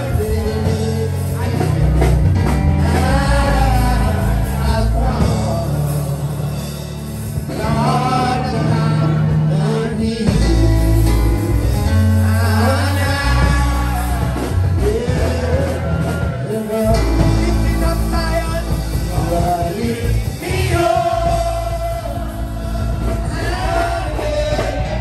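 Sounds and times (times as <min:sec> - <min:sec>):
amplified instruments with heavy bass: 0:00.0 - 0:25.0
man singing into a microphone: 0:00.0 - 0:25.0
people singing along: 0:00.0 - 0:25.0.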